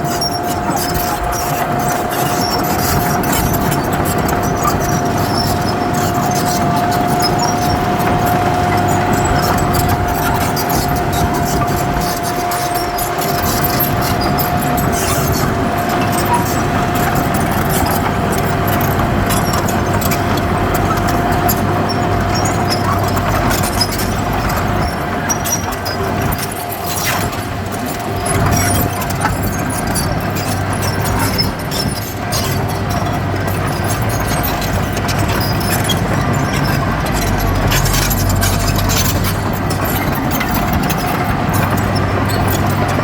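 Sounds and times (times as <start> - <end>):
clicks and clanks: 0.0 - 43.0
diesel machinery engine running: 0.0 - 43.0.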